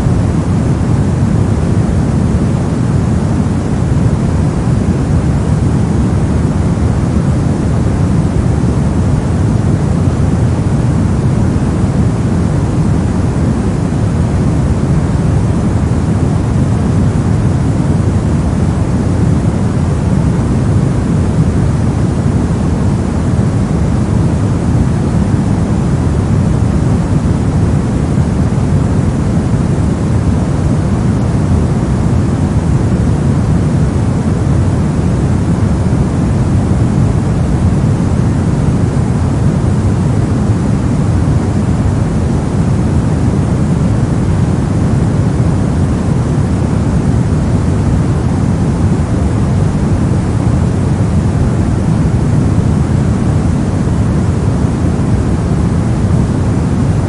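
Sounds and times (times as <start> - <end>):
deep continuous noise: 0.0 - 57.0.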